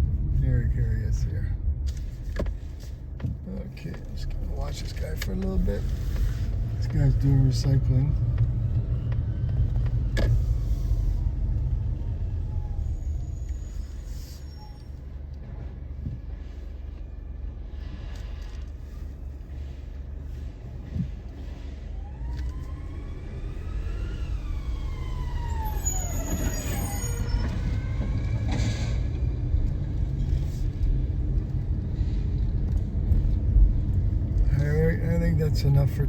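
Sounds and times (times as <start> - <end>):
vehicle engines rumbling: 0.0 - 36.0.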